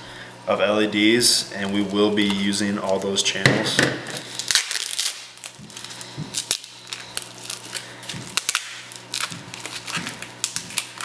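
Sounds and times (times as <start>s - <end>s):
plastic bag crinkling: 1.4s - 3.4s, 4.0s - 11.0s.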